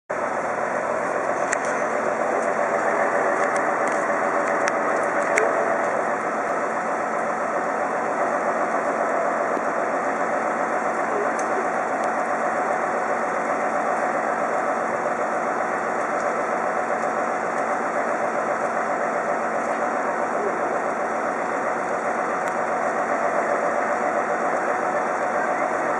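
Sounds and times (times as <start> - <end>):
diesel truck engine idling: 0.1 - 25.9.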